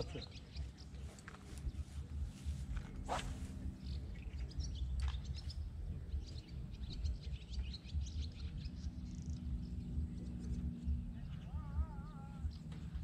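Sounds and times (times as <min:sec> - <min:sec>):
songbirds chirping: 0:00.0 - 0:13.0
low rumble: 0:01.4 - 0:13.0.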